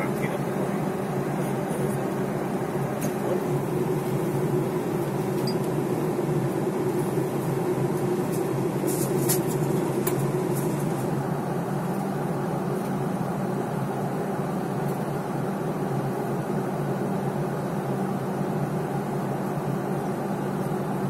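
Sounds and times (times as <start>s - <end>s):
airplane cabin engine drone: 0.0s - 21.0s.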